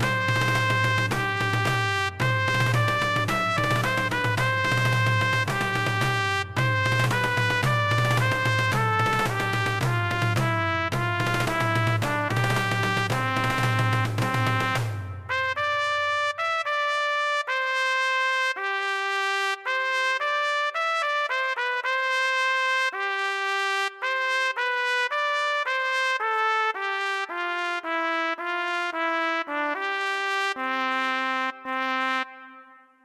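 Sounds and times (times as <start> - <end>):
solo trumpet melody: 0.0 - 33.0.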